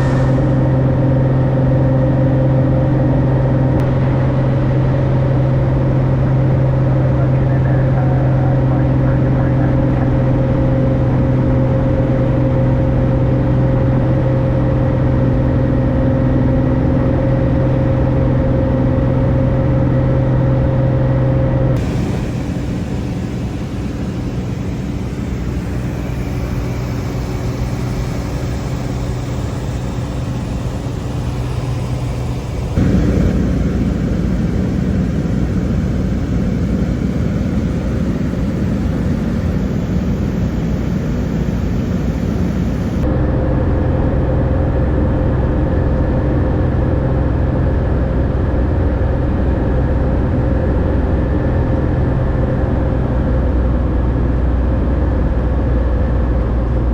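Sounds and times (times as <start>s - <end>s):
airplane engine droning in cabin: 0.0s - 56.9s.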